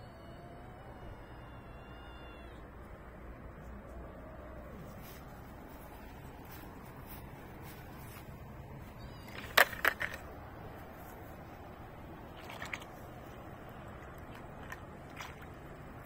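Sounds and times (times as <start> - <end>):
low outdoor hum: 0.0 - 16.0.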